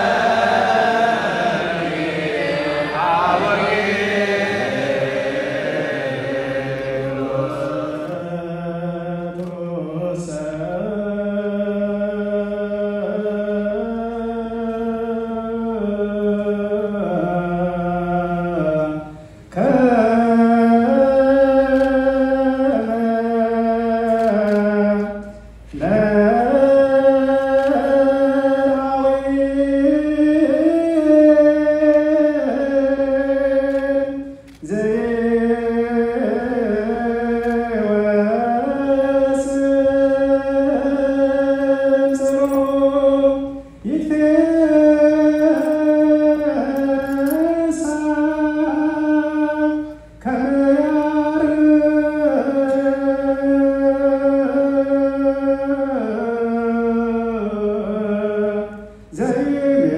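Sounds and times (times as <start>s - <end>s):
liturgical chant in long held notes: 0.0s - 59.9s.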